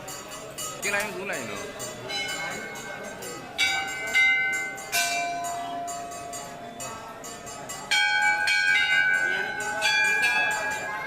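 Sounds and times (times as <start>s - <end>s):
temple bells ringing: 0.0s - 11.0s.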